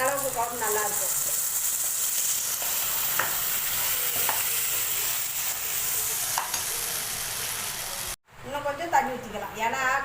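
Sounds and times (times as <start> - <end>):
okra sizzling in hot oil: 0.0 - 8.2.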